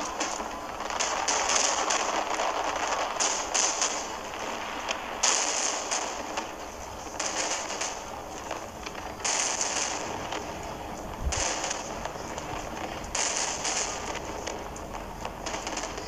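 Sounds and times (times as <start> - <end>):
fireworks crackling bursts: 0.0 - 16.0.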